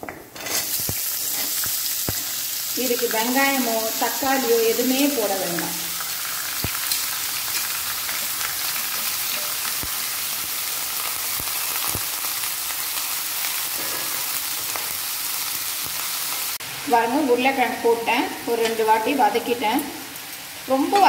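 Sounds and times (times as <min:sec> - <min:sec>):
potatoes sizzling in hot oil: 0:00.2 - 0:21.0.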